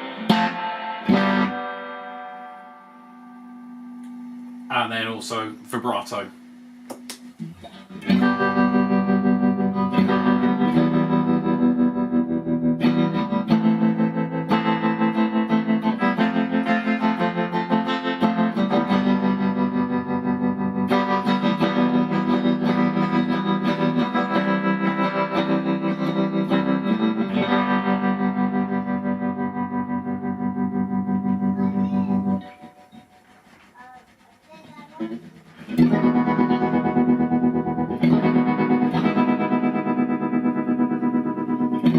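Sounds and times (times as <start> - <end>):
electric guitar with tremolo: 0.0 - 41.9.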